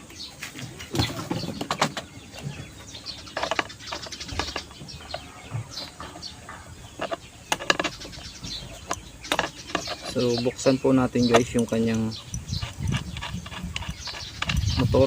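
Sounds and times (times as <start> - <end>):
birds calling: 0.0 - 15.0
clicks and knocks of fan parts: 0.5 - 15.0.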